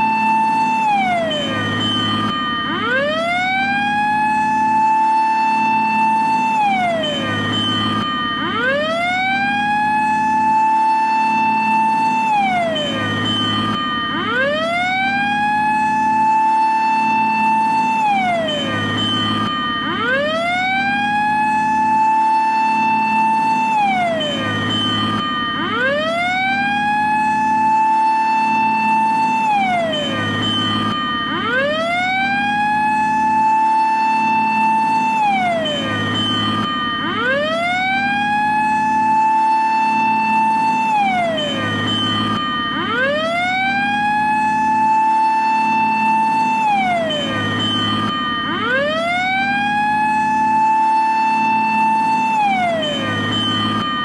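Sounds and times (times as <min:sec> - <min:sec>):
fire engine siren wailing: 0:00.0 - 0:54.0.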